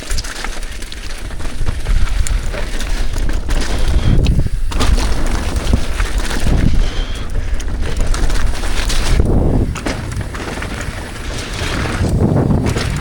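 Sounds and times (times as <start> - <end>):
bike knocks and rattles: 0.0 - 13.0
wind buffeting microphone: 1.1 - 13.0.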